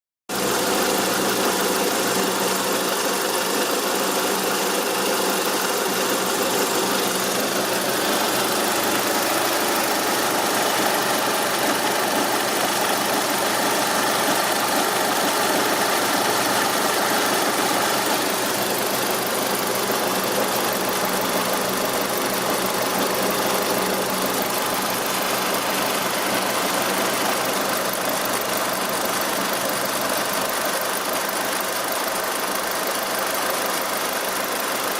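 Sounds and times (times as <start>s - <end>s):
car engine idling: 0.3s - 34.9s.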